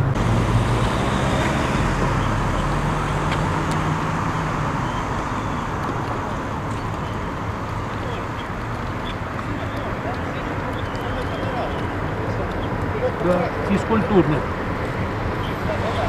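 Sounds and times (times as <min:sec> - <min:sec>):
traffic-like noise: 0:00.0 - 0:16.0.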